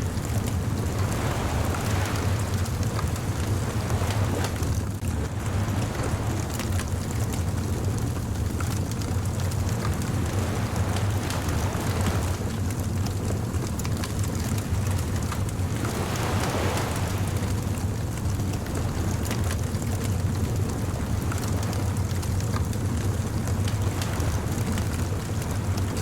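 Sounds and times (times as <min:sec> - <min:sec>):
surf rumbling: 0:00.0 - 0:26.0
wave washing in: 0:00.0 - 0:26.0
wood fire crackling and popping: 0:00.0 - 0:26.0.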